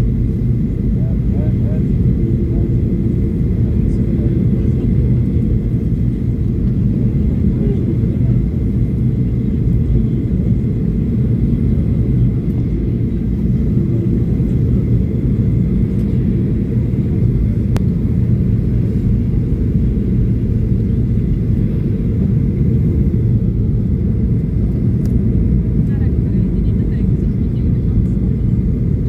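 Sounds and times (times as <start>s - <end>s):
airliner low rumble: 0.0s - 29.0s.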